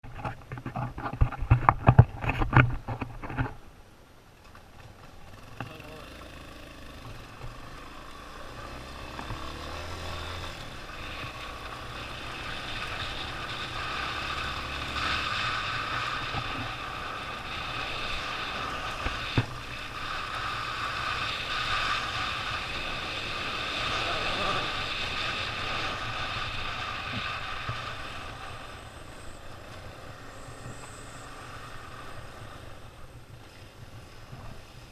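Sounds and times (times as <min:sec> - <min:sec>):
motorcycle engine running: 0:05.0 - 0:33.4.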